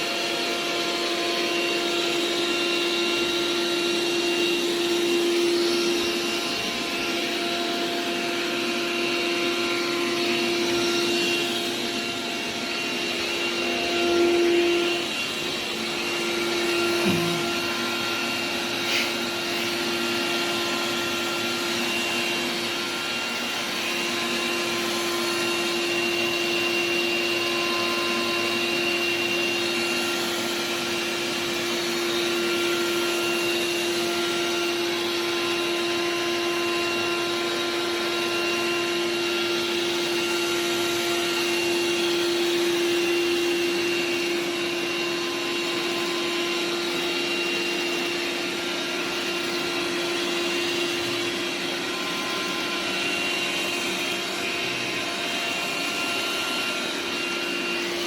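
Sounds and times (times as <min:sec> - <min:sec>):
robot vacuum fan whine: 0:00.0 - 0:58.0.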